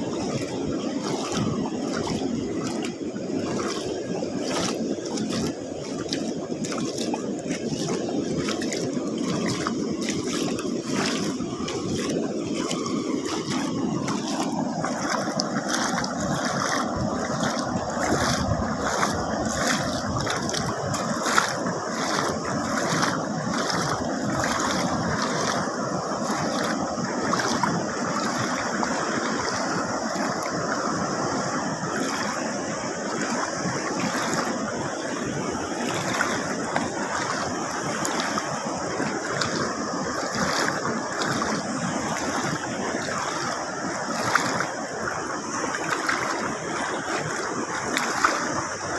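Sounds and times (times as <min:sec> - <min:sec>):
surf splashing on rocks: 0:00.0 - 0:48.9.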